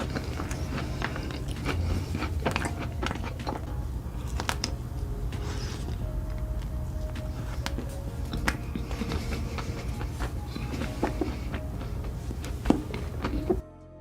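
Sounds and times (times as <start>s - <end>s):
chewing and mouth smacking: 0.0s - 13.6s.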